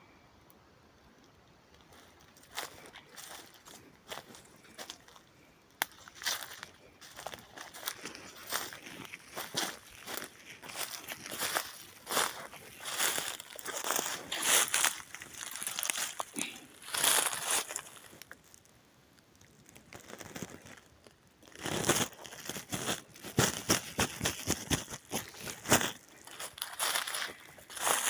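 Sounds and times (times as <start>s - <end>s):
footsteps crunching pine needles: 1.8s - 18.6s, 19.4s - 28.0s.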